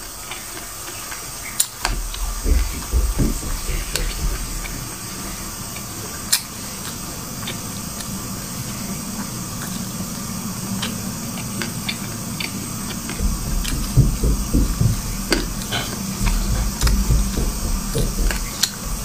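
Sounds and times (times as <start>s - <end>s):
close chewing of seeds: 0.0s - 19.0s
steady low hum: 0.0s - 19.0s.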